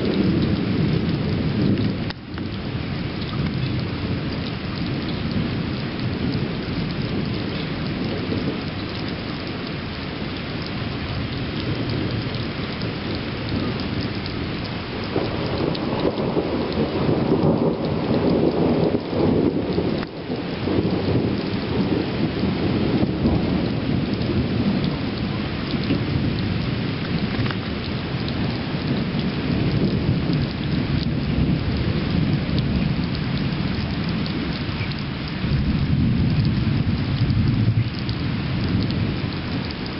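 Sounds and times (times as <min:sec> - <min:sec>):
rolling thunder: 0:00.0 - 0:39.9
steady rain falling: 0:00.0 - 0:39.9.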